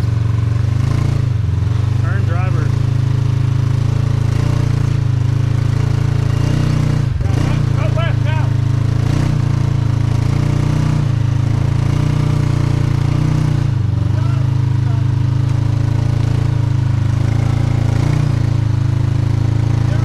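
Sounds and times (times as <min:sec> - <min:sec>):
engine running at low revs: 0:00.0 - 0:20.0.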